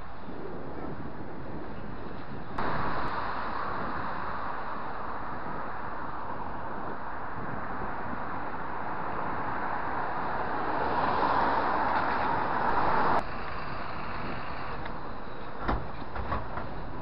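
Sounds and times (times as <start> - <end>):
bike road noise: 0.0 - 17.0
traffic noise: 0.0 - 17.0
wind rushing on microphone: 0.0 - 17.0.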